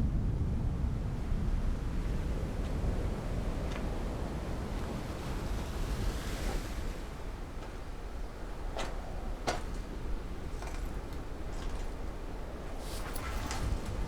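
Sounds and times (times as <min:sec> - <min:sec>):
sea surf and wind rumble: 0:00.0 - 0:14.0.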